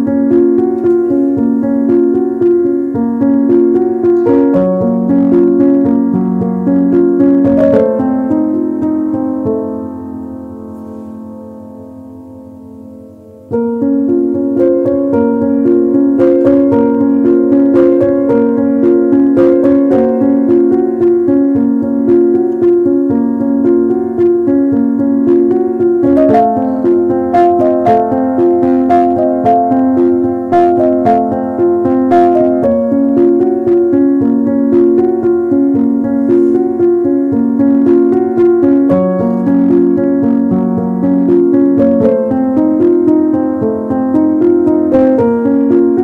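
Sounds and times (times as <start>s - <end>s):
piano music: 0.0s - 46.0s.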